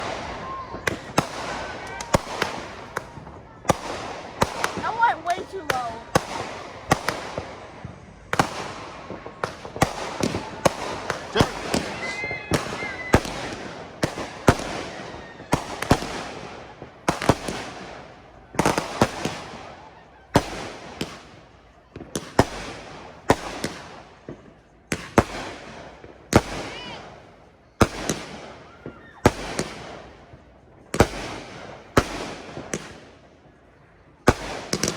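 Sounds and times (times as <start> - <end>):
fireworks banging and crackling: 0.0 - 34.9.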